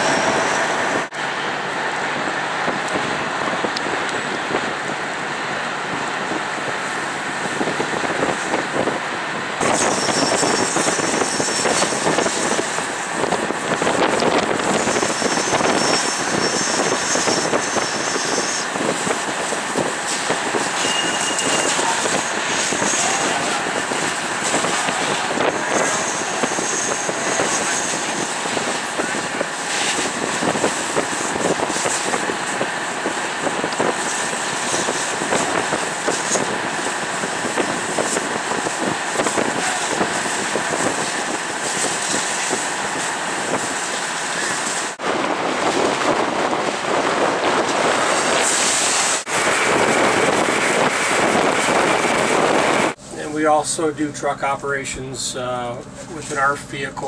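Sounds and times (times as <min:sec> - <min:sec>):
high whines: 0:00.0 - 0:56.4
fire engine pumps rushing: 0:00.0 - 0:57.0.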